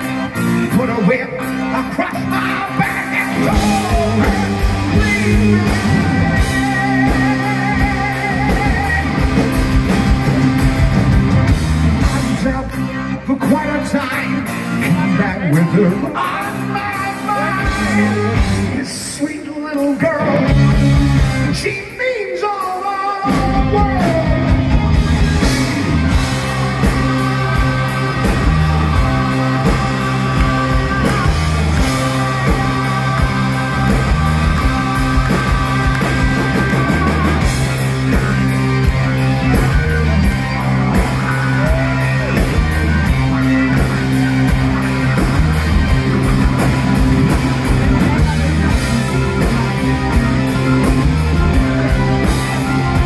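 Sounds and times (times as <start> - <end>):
live heavy rock band: 0.0 - 53.0.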